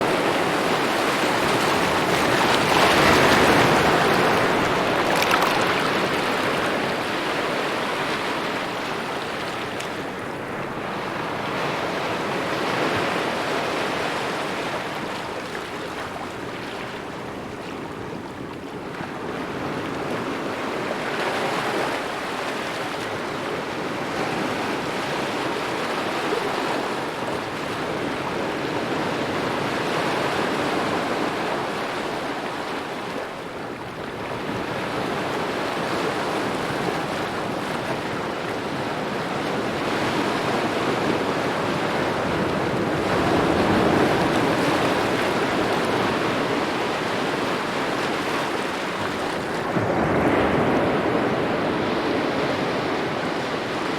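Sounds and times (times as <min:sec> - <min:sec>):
small waves lapping at shore: 0:00.0 - 0:53.9.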